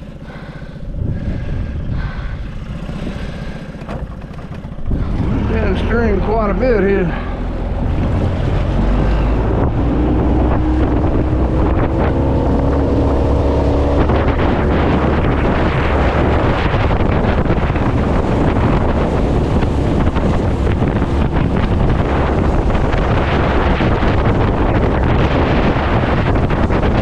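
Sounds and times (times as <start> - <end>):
boat motor running: 0.0 - 27.0
wind buffeting microphone: 0.0 - 27.0.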